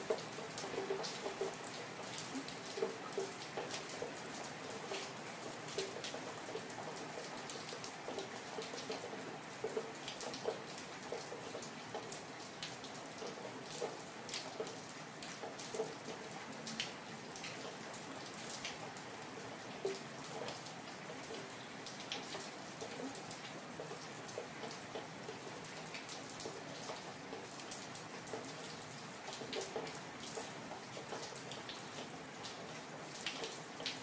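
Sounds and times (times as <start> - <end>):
rain drops ticking: 0.0 - 34.0.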